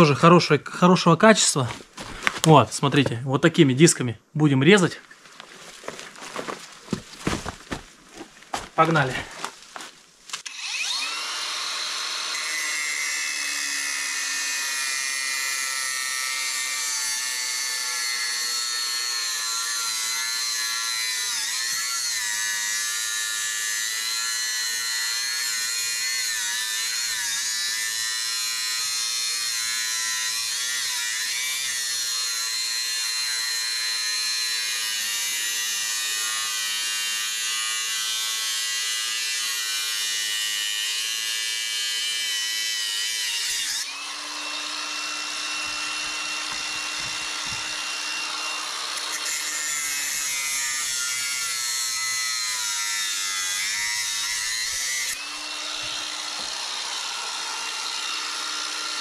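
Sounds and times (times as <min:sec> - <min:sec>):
angle grinder cutting metal pipe: 0:10.4 - 0:59.0.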